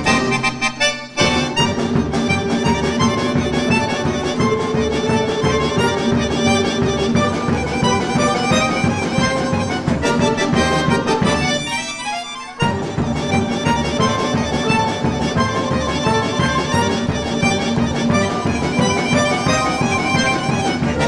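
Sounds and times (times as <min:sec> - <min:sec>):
bowed strings: 0:00.0 - 0:21.0
button accordion: 0:00.0 - 0:21.0
folk orchestra playing: 0:00.0 - 0:21.0.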